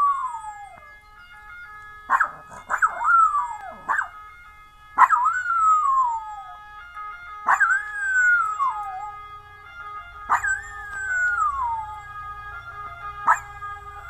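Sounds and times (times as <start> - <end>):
dog howling like a siren: 0.0 - 1.0, 2.0 - 4.2, 5.0 - 6.8, 7.4 - 14.0.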